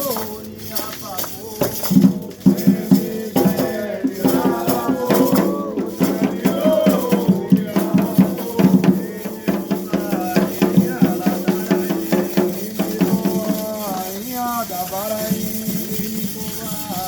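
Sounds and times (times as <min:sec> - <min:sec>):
voices singing: 0:00.0 - 0:17.0
hand drums beating: 0:01.2 - 0:17.0.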